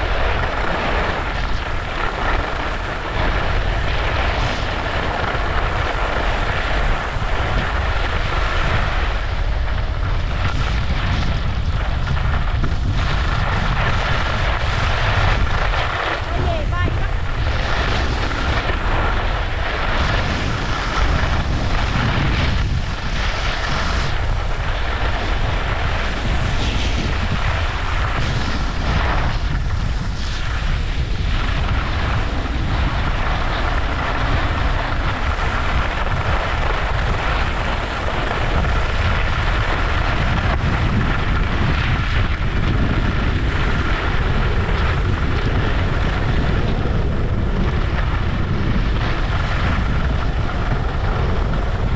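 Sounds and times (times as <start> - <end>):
skis scraping on snow: 0.0 - 51.9
wind buffeting microphone: 0.0 - 51.9.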